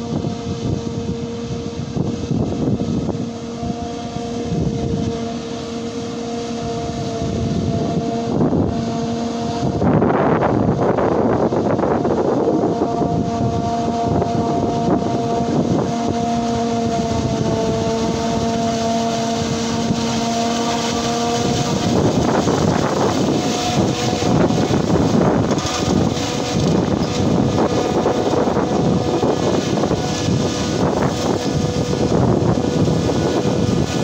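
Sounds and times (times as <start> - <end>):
tractor running: 0.0 - 34.0.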